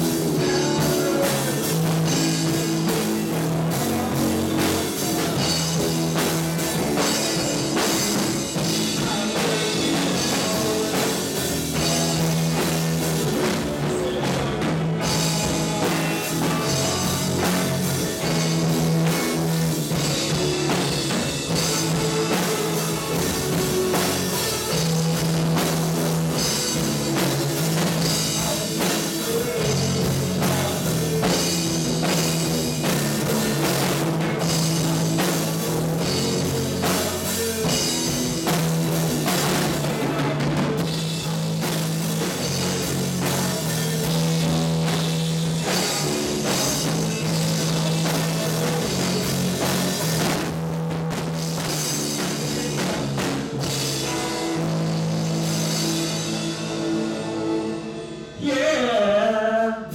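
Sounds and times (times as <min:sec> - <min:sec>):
drum kit beat: 0:00.0 - 0:58.4
electric bass: 0:00.0 - 0:58.6
electric guitar: 0:00.0 - 0:59.9
keyboard: 0:00.0 - 0:59.9.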